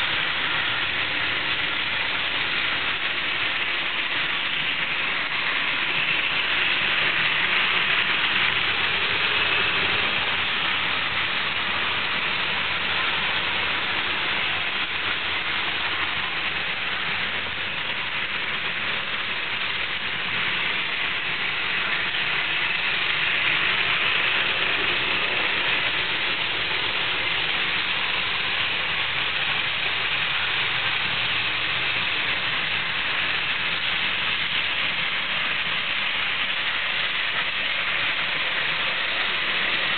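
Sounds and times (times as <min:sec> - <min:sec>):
model trains running on track: 0:00.0 - 0:39.9.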